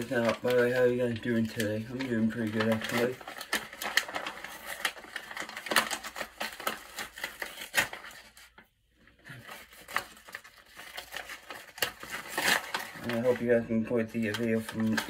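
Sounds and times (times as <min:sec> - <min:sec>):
paper envelope tearing and rustling: 0:00.0 - 0:08.7, 0:09.3 - 0:15.0.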